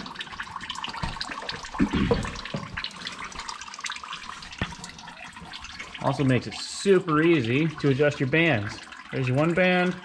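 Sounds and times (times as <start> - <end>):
fluid trickling and dripping: 0.0 - 10.0.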